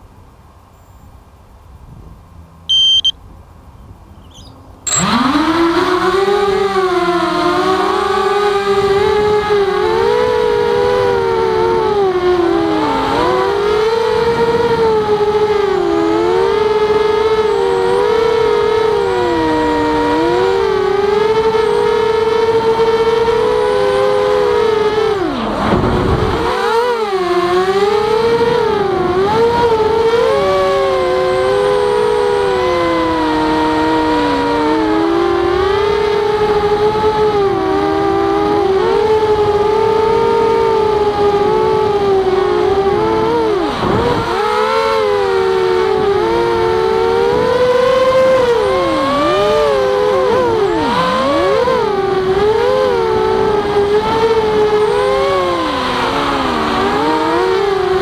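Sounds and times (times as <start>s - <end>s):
quadcopter motors whining: 2.7s - 3.1s, 4.2s - 58.0s.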